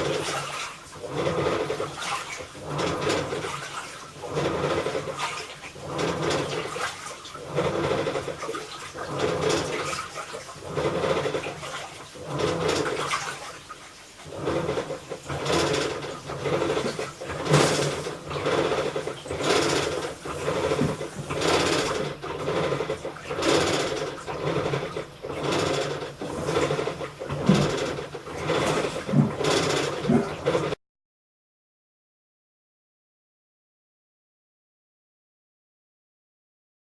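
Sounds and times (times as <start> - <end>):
washing machine creaking and grinding: 0.0 - 30.8.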